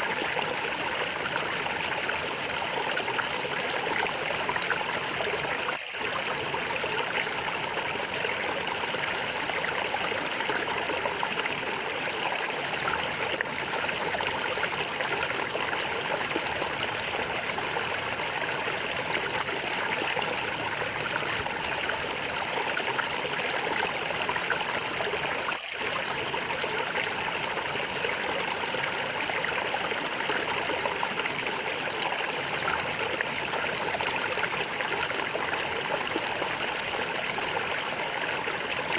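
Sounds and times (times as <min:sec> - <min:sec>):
water gurgling: 0:00.0 - 0:38.9.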